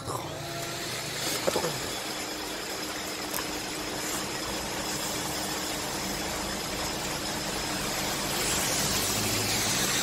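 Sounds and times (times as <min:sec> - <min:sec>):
engine-like hum: 0:00.0 - 0:10.0.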